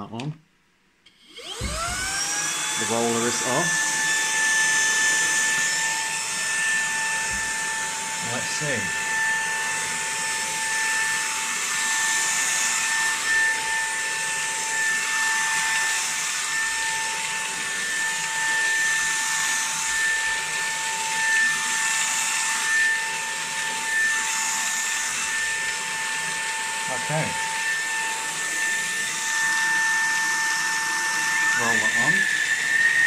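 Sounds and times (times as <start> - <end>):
stick vacuum motor whine: 1.1 - 33.0.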